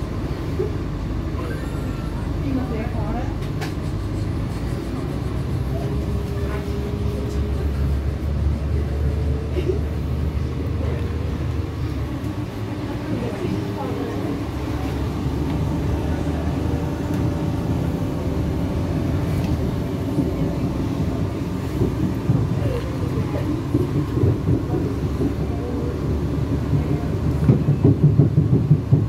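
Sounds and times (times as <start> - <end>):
train diesel engine and wheels rumble: 0.0 - 29.0.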